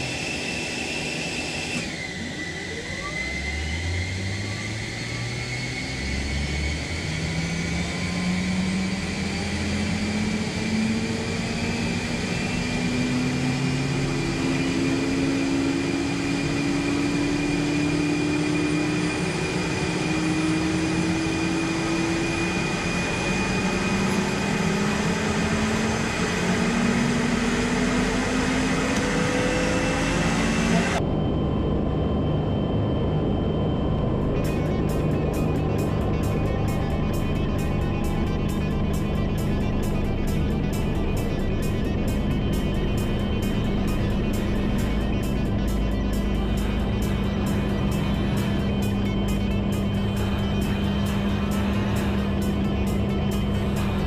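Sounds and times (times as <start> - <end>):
helicopter spooling up: 0.0 - 54.0.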